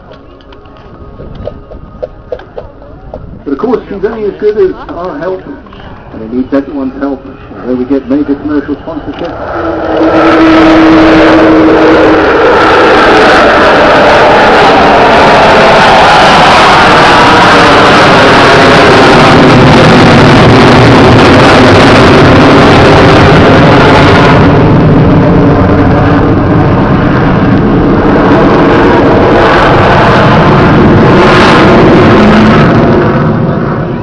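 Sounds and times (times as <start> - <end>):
jet engines at high power: 0.0 - 34.0.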